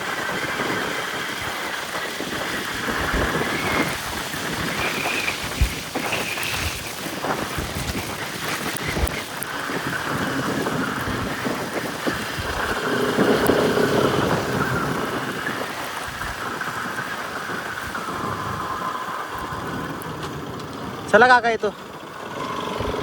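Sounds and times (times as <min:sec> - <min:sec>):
motorcycle engine running: 0:00.0 - 0:23.0
tyres on dirt trail: 0:00.0 - 0:23.0
wind rush: 0:00.0 - 0:23.0
low bumps: 0:01.0 - 0:23.0.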